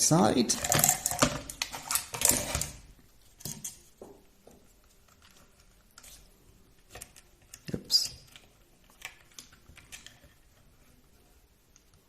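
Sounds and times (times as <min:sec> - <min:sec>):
plastic car parts rustling: 0:00.5 - 0:03.9, 0:04.6 - 0:12.0.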